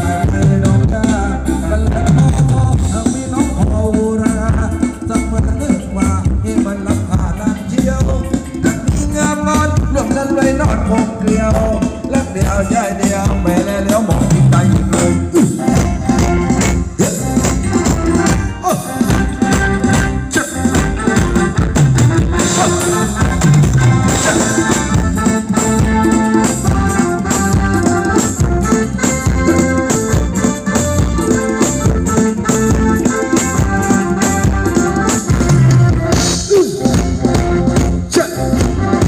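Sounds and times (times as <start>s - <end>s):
drum kit beat: 0.0s - 39.0s
electronic organ: 0.0s - 39.0s
live band dance music: 0.0s - 39.0s.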